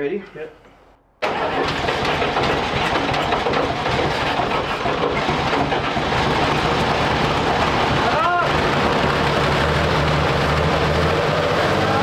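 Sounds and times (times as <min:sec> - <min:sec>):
truck engine running: 0:01.2 - 0:12.0.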